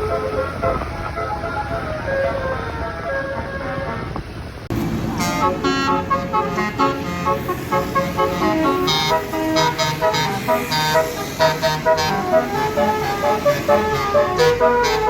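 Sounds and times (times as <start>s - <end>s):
bus horns playing melody: 0.0s - 15.0s.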